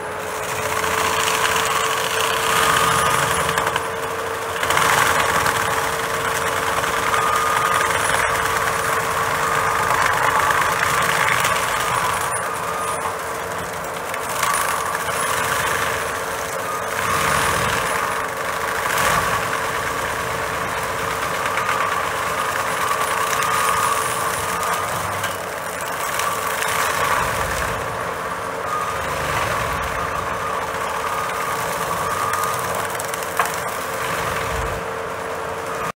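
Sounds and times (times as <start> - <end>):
wood grinding noise: 0.0 - 35.9
mulcher engine whine: 0.0 - 36.0.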